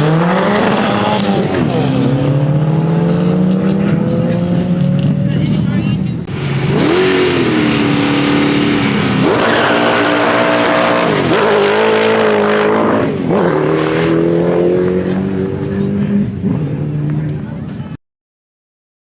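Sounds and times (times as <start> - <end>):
car engine at full throttle: 0.0 - 17.8.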